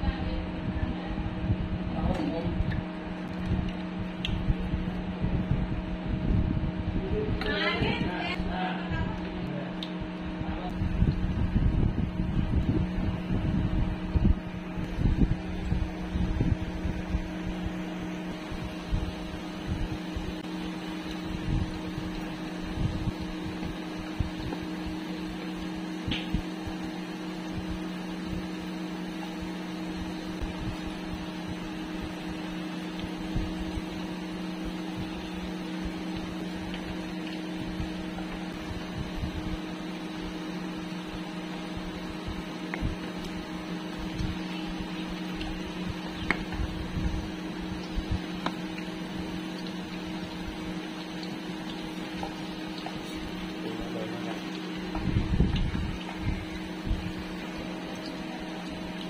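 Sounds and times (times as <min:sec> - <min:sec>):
cooktop fan humming: 0:00.0 - 0:59.0
oil sizzling deep-frying: 0:10.8 - 0:59.0.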